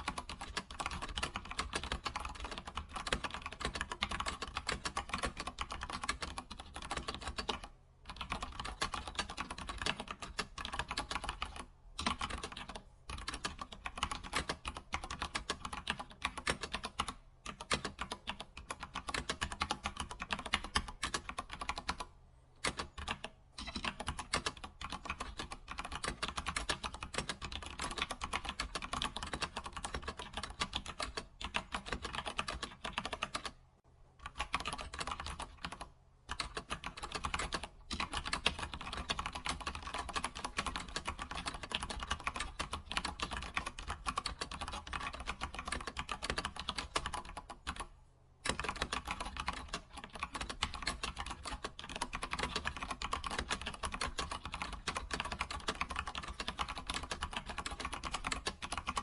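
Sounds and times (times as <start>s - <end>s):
fast typing on keyboard: 0.0s - 33.6s, 34.2s - 59.0s.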